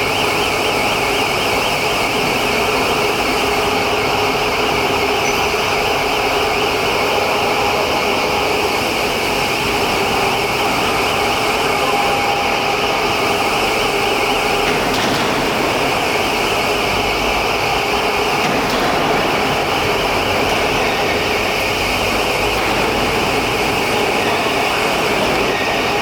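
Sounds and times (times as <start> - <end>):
cnc router running: 0.0 - 26.0
constant machine whine: 0.0 - 26.0.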